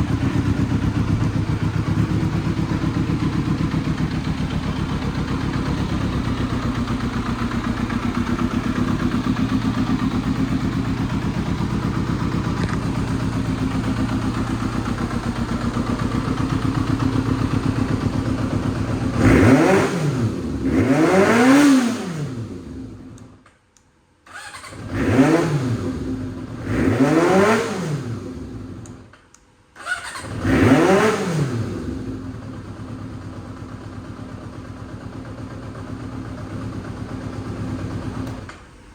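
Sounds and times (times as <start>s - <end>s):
motorcycle engine idling and revving: 0.0s - 23.4s, 24.3s - 29.2s, 29.8s - 38.9s.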